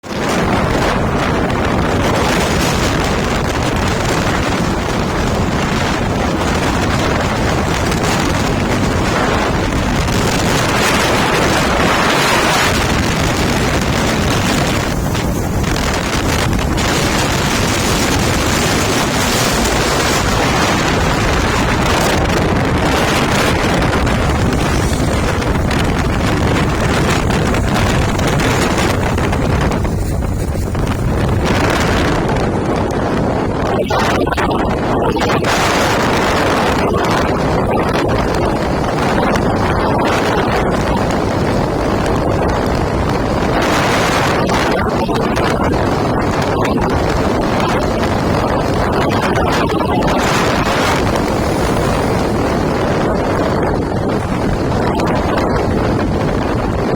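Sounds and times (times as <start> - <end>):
wind rushing over microphone: 0.0 - 56.9.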